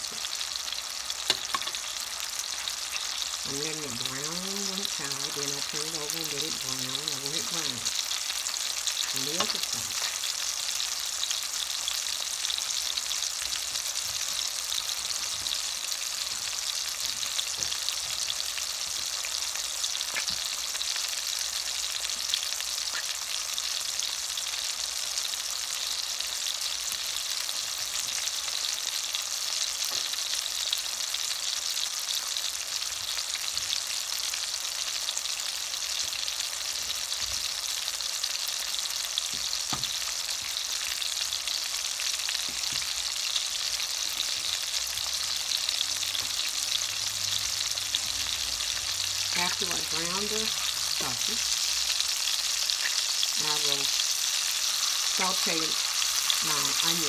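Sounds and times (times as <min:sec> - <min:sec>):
sausage sizzling in hot oil: 0:00.0 - 0:57.0.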